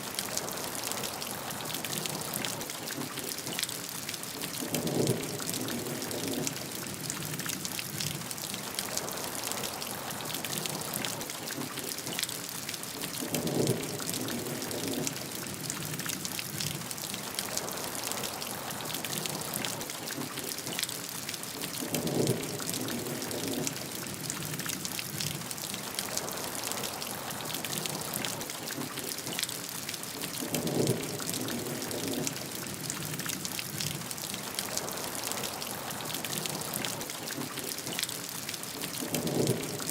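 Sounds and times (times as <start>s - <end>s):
steady rain drops ticking: 0.0s - 39.9s.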